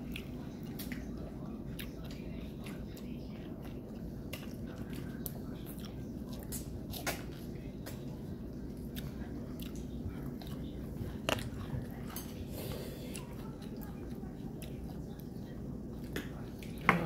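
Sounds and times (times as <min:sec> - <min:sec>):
chewing and biting food: 0:00.0 - 0:17.0.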